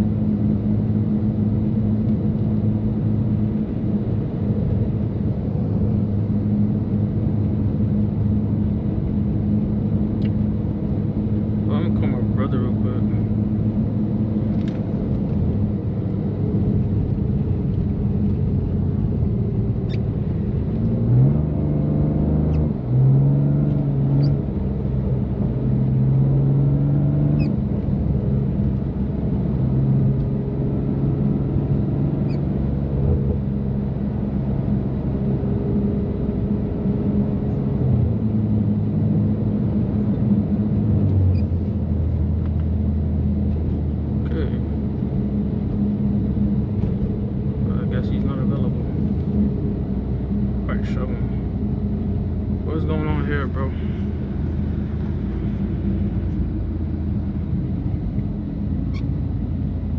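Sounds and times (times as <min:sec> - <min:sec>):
car engine and exhaust droning: 0:00.0 - 0:59.9.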